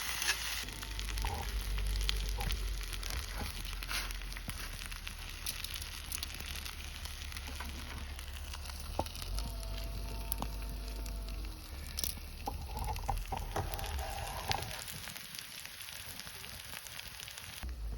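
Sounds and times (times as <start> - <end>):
food sizzling in a pan: 0.0 - 17.7
campfire crackles and pops: 0.6 - 17.7.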